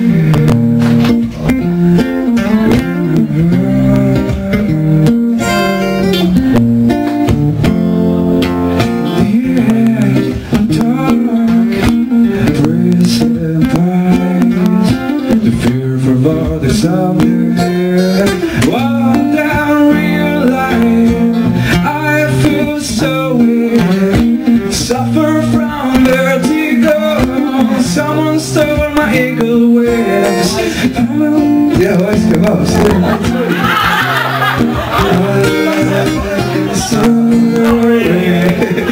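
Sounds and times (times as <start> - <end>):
man singing into a microphone: 0.0 - 6.3, 8.8 - 38.9
acoustic guitar strumming: 0.0 - 38.9.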